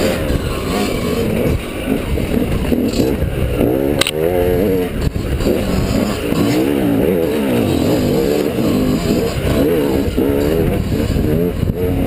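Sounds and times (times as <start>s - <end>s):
chassis noise: 0.0s - 12.0s
dirt bike engine revving: 0.0s - 12.0s
wind rumble: 0.0s - 12.0s.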